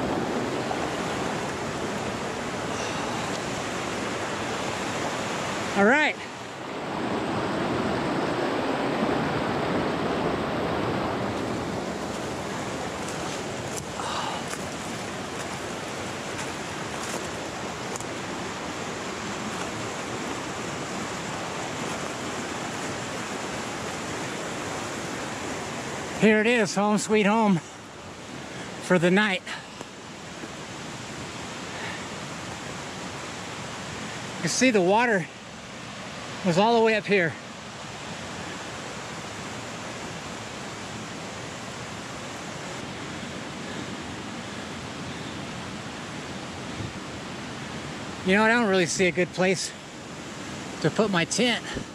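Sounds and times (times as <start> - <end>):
creek rushing over rocks: 0.0 - 51.9.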